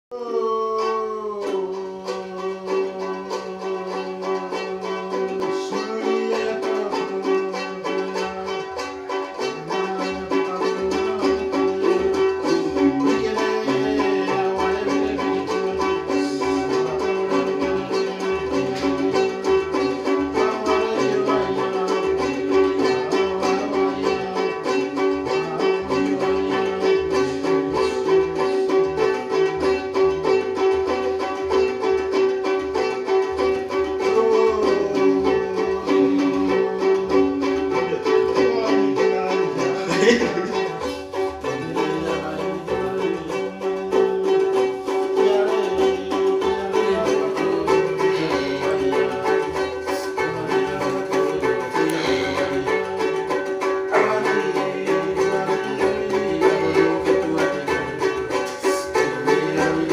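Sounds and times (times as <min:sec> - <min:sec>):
wooden lutes strummed: 0:00.1 - 0:59.9
men singing: 0:00.2 - 0:30.8, 0:33.2 - 0:59.9.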